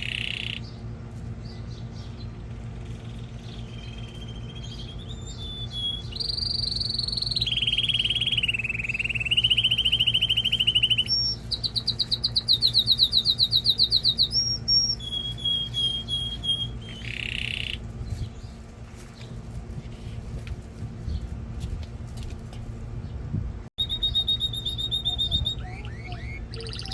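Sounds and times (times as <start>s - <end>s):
canary singing trills: 0.0s - 18.6s, 23.8s - 26.9s
steady low hum: 0.0s - 26.9s.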